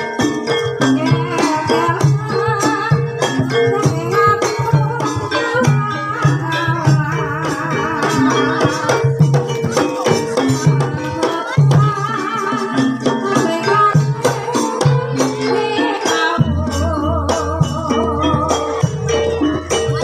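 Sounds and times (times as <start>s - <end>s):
gamelan-style percussion melody: 0.0s - 20.0s
hand-drum strokes: 0.0s - 20.0s.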